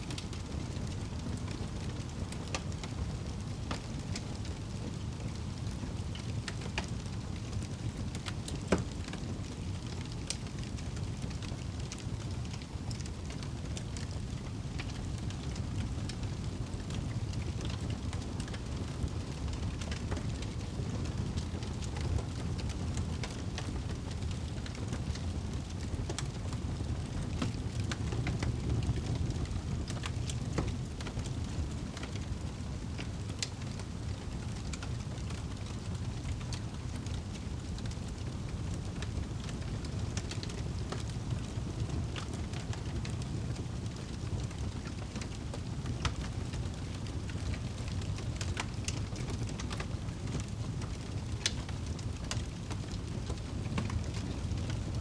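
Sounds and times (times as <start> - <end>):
fire pops and snaps: 0.1 - 55.0
wood fire rumbling: 0.1 - 55.0.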